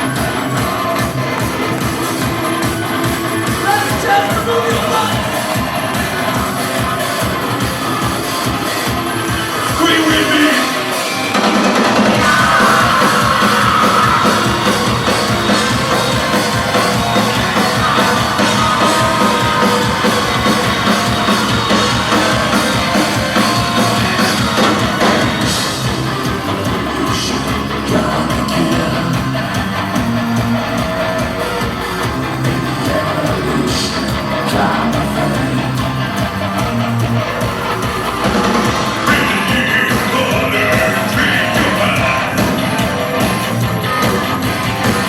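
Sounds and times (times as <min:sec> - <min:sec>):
sung and shouted vocals: 0:00.0 - 0:31.3, 0:32.0 - 0:37.2, 0:38.3 - 0:45.0
live industrial metal band: 0:00.0 - 0:45.0.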